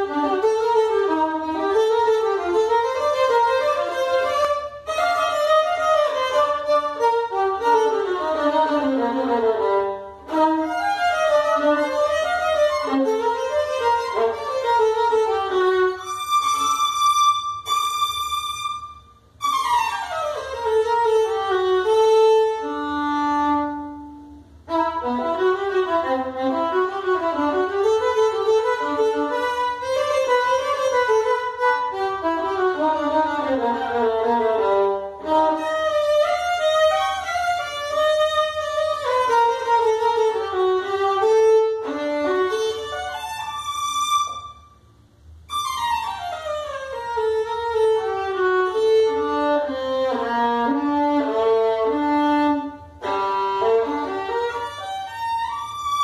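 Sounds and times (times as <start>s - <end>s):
solo violin playing lively tune: 0.0s - 44.7s, 45.5s - 56.0s.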